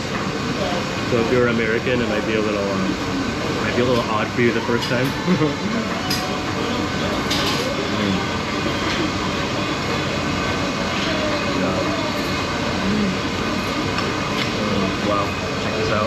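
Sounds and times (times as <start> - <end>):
murmur of diners' voices: 0.0 - 16.0
ventilation noise: 0.0 - 16.0.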